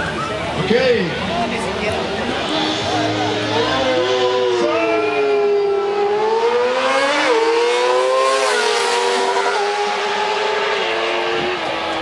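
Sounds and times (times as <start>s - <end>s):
motorcycle engines at high revs: 1.5s - 12.0s.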